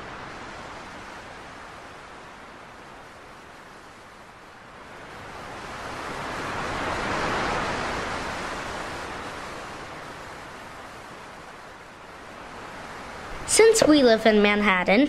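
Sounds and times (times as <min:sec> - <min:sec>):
ocean wave rushing: 0:00.0 - 0:15.0.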